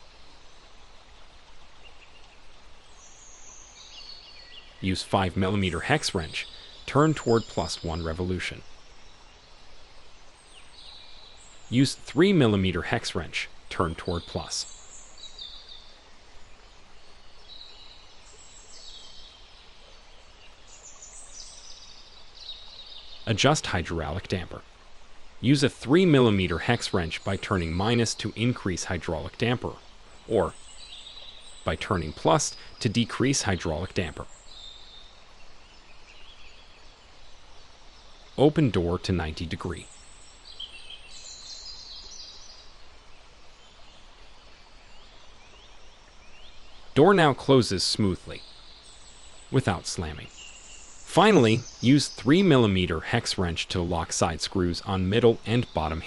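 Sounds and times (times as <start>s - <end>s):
faint birdsong chirps: 0.0s - 56.0s
faint outdoor background noise: 0.0s - 56.0s
low background hiss: 0.0s - 56.0s.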